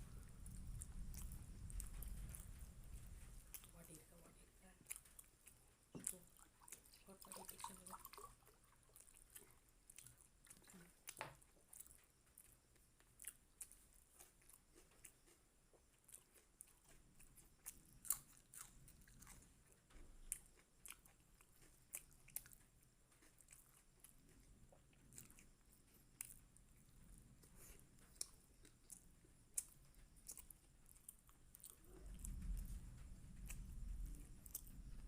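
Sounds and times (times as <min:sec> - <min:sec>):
close-up chewing: 0:00.0 - 0:35.0.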